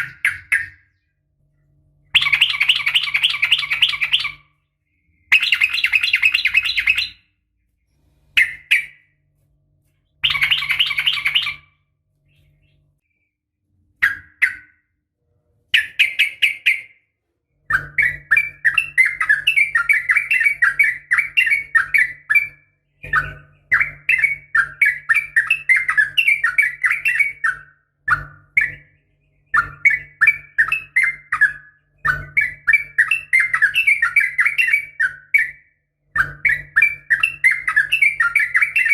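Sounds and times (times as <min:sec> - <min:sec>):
bulbul singing: 0:00.0 - 0:15.0, 0:15.7 - 0:38.9.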